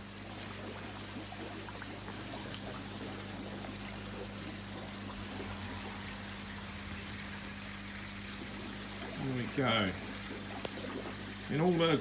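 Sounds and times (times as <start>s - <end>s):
steady low hum: 0.0s - 12.0s
water splashing into pond: 0.0s - 12.0s.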